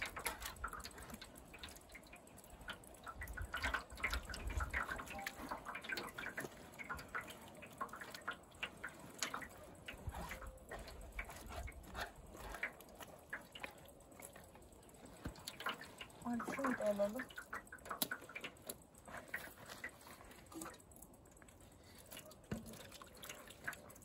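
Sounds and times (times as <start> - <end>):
juice dripping into tub: 0.0 - 24.0
pulp squelching through mesh: 0.0 - 24.0.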